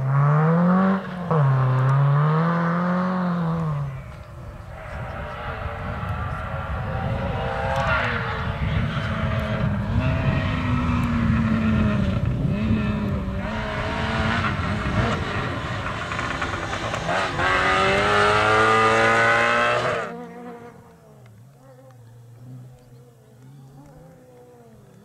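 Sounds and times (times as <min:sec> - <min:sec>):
rally car engine revving: 0:00.0 - 0:21.3.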